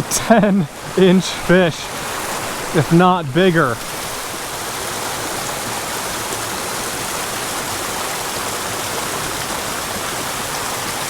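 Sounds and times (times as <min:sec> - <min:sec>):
creek splashing over rocks: 0:00.0 - 0:11.0.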